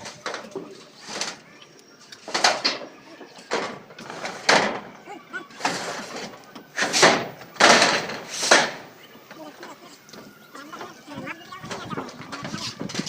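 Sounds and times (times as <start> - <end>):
tin sheets clattering and scraping: 0.0 - 13.0.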